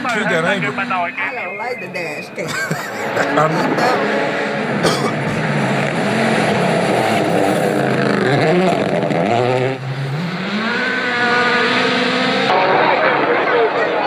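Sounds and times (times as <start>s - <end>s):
rally car engine revving: 0.0s - 1.4s, 2.2s - 14.0s.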